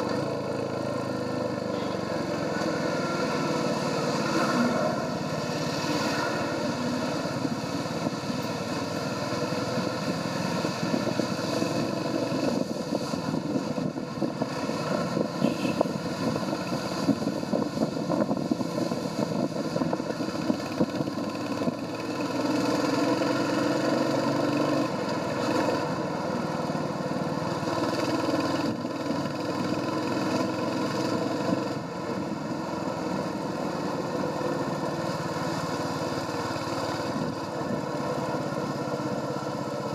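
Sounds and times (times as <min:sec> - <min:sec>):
road and wind noise: 0:00.0 - 0:39.9
motorcycle engine running: 0:06.4 - 0:39.9.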